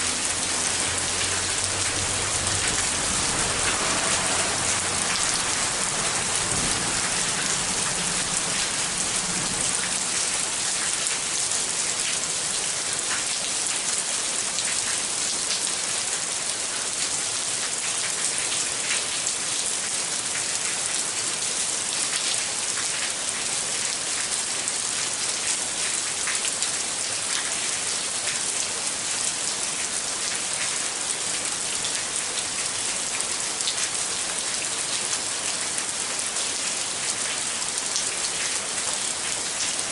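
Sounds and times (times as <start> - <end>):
rain falling: 0.0 - 39.9
raindrops ticking on surfaces: 0.0 - 39.9.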